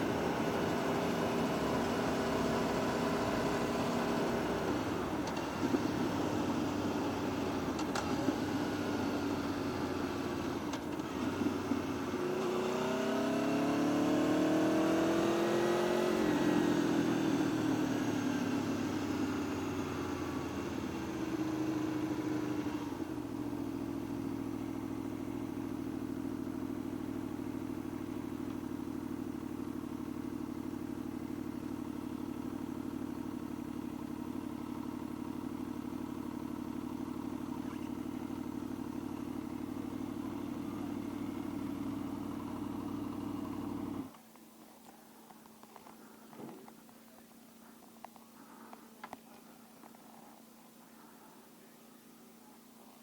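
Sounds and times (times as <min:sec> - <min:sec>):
motorcycle engine revving and idling: 0:00.0 - 0:44.2.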